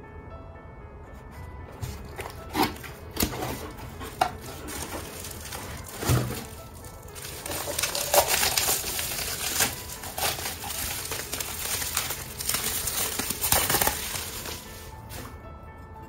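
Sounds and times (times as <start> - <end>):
soft background music: 0.0 - 16.0
bubble wrap crinkling: 1.8 - 15.5.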